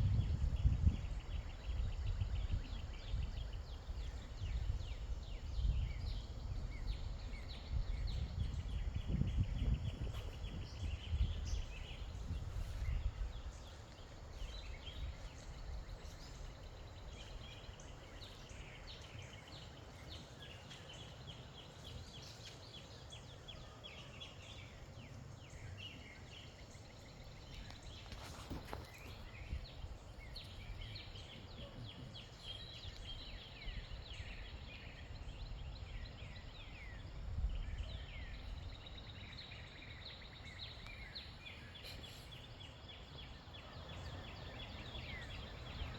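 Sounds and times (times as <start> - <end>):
wind rumbling on microphone: 0.0 - 23.5, 24.4 - 45.9
birds chirping: 0.1 - 45.9.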